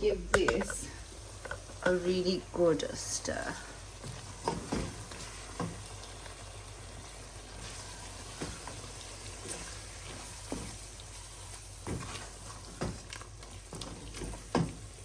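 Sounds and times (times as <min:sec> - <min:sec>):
food sizzling and bubbling: 0:00.0 - 0:15.0.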